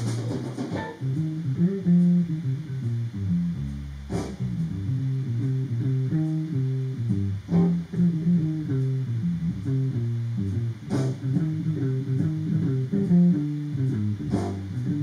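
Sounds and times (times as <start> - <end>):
bass guitar riff: 0.0 - 15.0
plucked guitar: 0.0 - 15.0.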